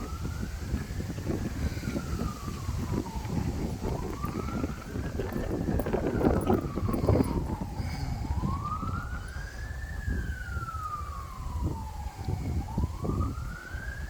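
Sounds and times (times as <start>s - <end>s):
distant siren wailing: 0.0s - 14.0s.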